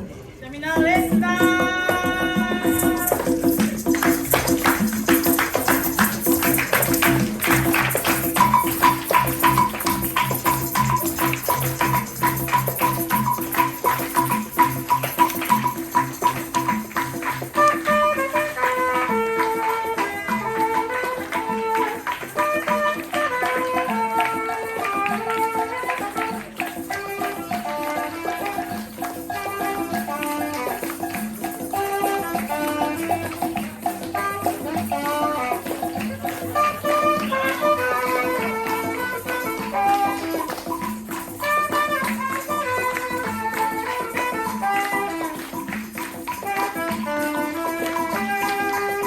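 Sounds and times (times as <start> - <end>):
instrumental dance music: 0.5 - 49.0
shaker strokes: 2.5 - 49.0.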